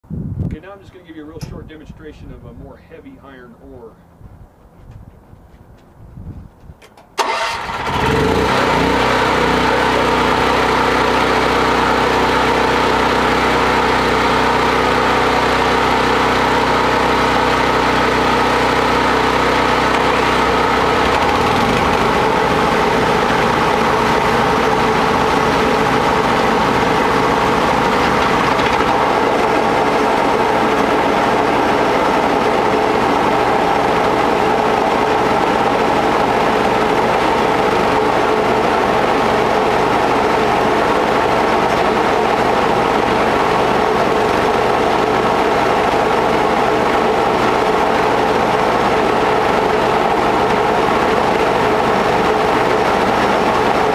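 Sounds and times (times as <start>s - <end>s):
generator engine running: 7.2s - 53.9s
small gasoline engine running: 7.2s - 53.9s.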